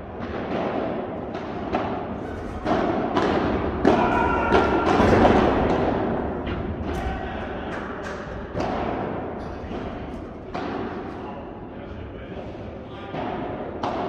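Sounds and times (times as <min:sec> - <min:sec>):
padel balls hit and bouncing: 0:00.1 - 0:11.2, 0:13.1 - 0:14.0.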